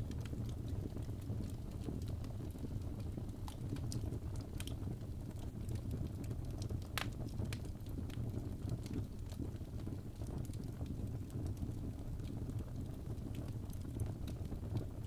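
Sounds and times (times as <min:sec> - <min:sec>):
fire crackling and popping: 0:00.0 - 0:15.0
low rumble of burning wood: 0:00.0 - 0:15.0.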